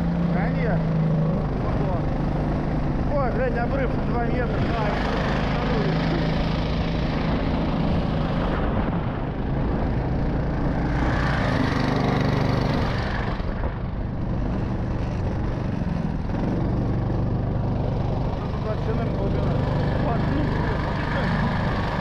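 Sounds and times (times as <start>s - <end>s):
snowmobile engine running: 0.0s - 22.0s.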